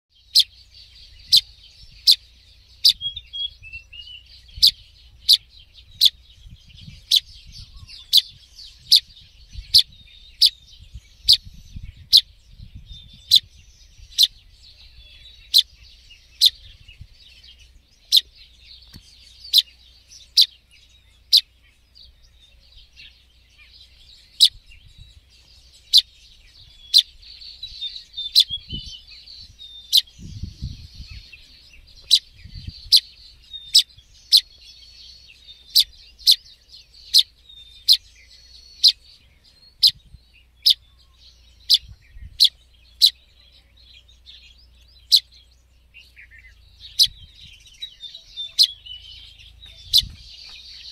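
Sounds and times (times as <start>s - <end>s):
faint twittering of birds: 0.1s - 50.9s
fledgling bird high chirps: 0.1s - 50.9s.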